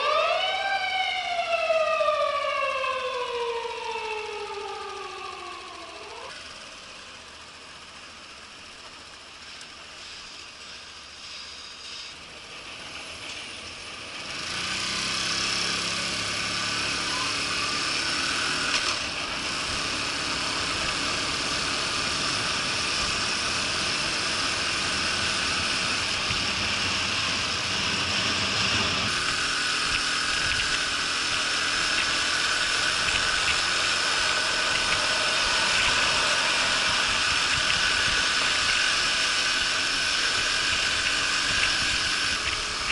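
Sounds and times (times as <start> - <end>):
moped engine: 1.2 - 42.9.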